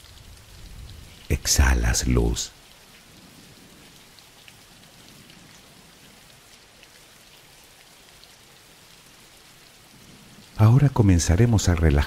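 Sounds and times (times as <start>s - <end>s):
raindrop ticks: 0.0s - 12.0s
steady rain hiss: 0.0s - 12.0s.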